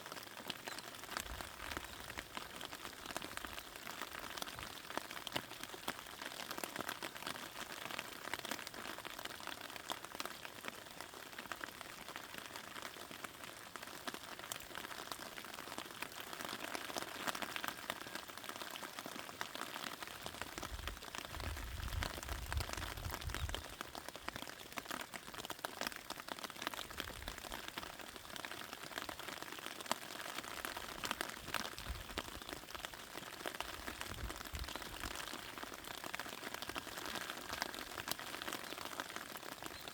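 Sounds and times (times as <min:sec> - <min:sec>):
rain hissing on plants: 0:00.0 - 0:39.9.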